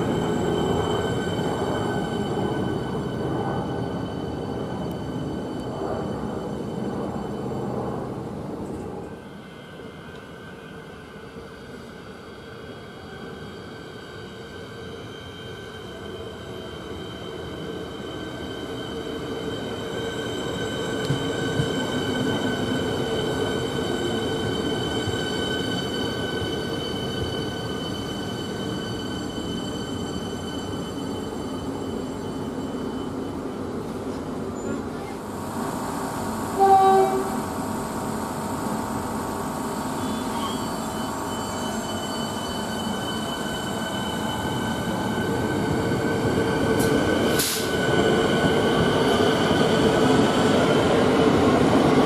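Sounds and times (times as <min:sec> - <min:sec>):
electric train rumbling: 0:00.0 - 0:52.0.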